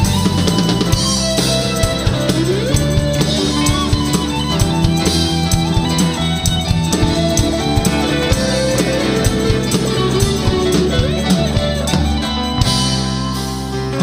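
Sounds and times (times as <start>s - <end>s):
bass: 0.0s - 14.0s
drum kit beat: 0.0s - 14.0s
electric guitar lead: 0.0s - 14.0s.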